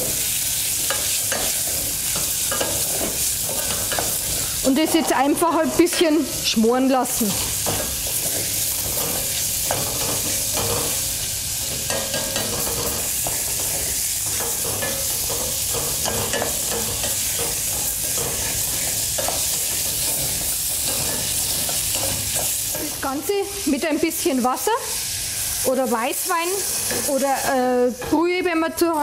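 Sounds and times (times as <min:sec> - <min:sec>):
meat sizzling in a pot: 0:00.0 - 0:29.0.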